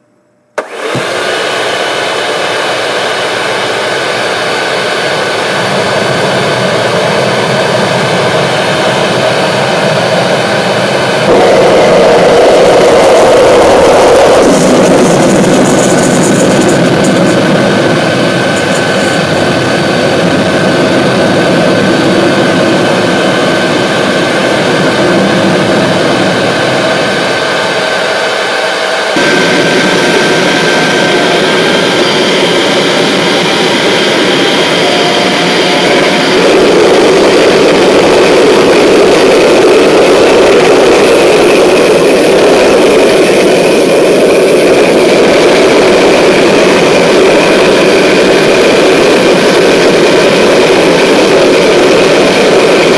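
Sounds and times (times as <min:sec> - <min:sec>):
high whine: 0:00.0 - 0:52.9
gas turbine engine rushing: 0:00.6 - 0:52.9.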